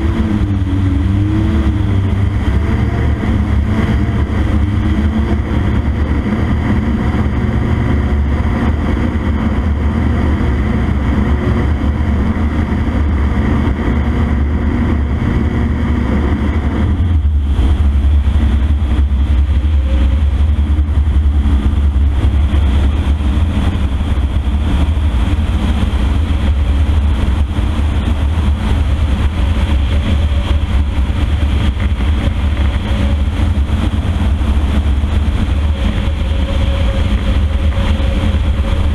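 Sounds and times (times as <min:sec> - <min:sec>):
aircraft engine and propeller drone: 0:00.0 - 0:38.9.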